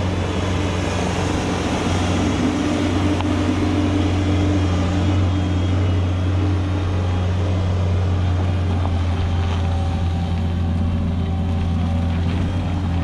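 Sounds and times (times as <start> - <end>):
farm machinery engine running: 0.0 - 13.0.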